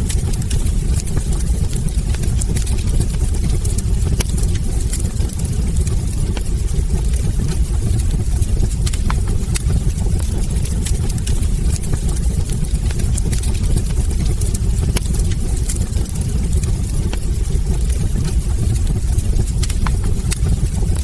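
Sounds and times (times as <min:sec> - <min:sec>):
fire crackles and pops: 0:00.0 - 0:21.0
fire flames rumbling: 0:00.0 - 0:21.0.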